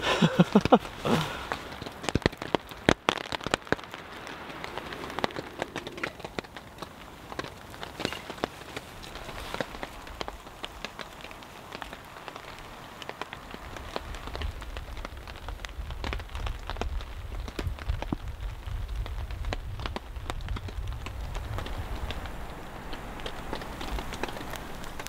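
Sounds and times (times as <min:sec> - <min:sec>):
hail and rain hitting a tarp: 0:00.0 - 0:25.0.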